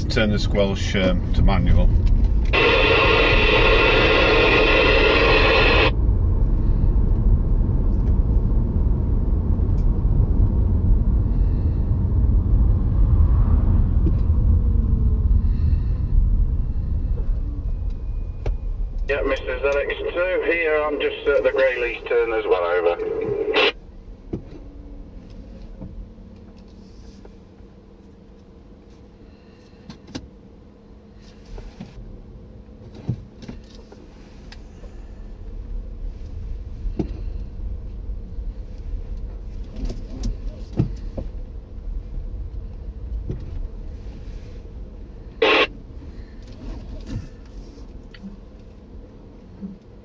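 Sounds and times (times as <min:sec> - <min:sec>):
faint steady hum: 0:00.0 - 0:50.0
road and tyre noise: 0:00.0 - 0:50.0.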